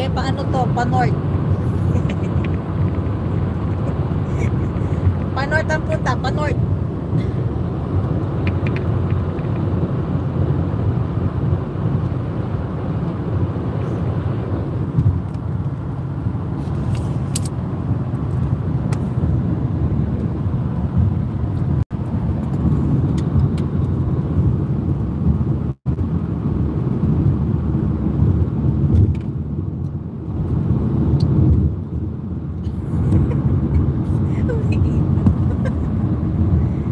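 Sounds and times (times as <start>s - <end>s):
car interior road noise: 0.0s - 36.9s.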